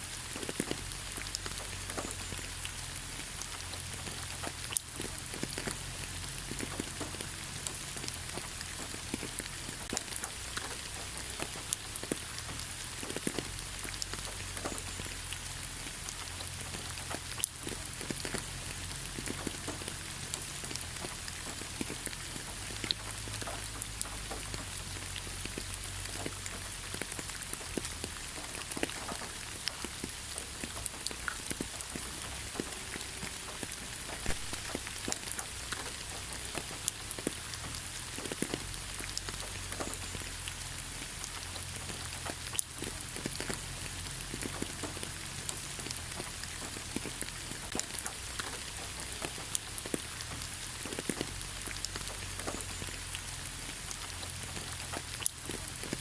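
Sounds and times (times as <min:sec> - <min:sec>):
rain falling in forest: 0:00.0 - 0:56.0
raindrops ticking on surfaces: 0:00.0 - 0:56.0.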